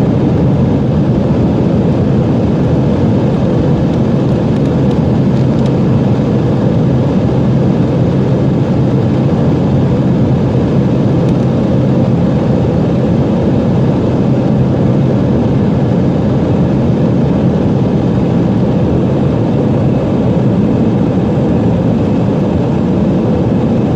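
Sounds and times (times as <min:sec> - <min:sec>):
jet engine rumble inside cabin: 0:00.0 - 0:23.9.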